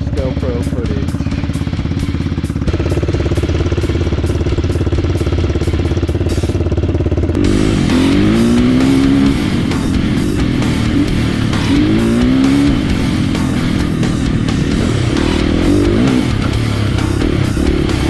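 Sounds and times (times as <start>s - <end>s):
dirt bike engine idling and revving: 0.0s - 18.0s.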